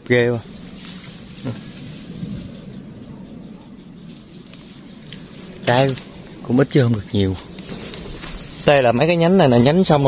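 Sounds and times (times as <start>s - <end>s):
faint hiss: 0.0s - 10.0s
low rumbling background noise: 0.0s - 10.0s.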